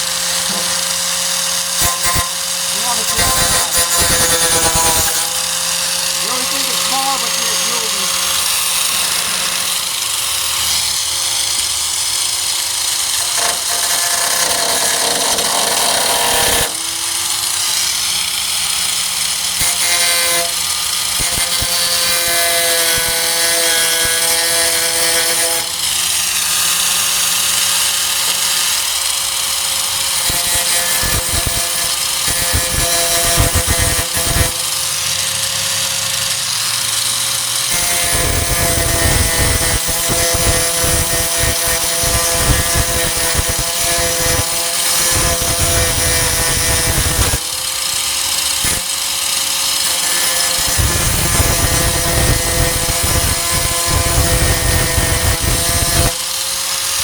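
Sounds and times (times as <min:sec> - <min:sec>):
angle grinder grinding metal: 0:00.0 - 0:57.0.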